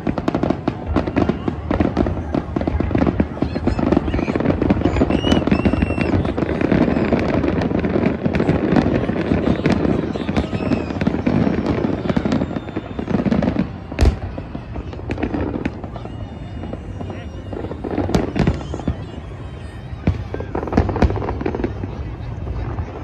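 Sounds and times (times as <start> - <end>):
fireworks booming and crackling: 0.0 - 23.0
loud firework bang: 0.0 - 23.0.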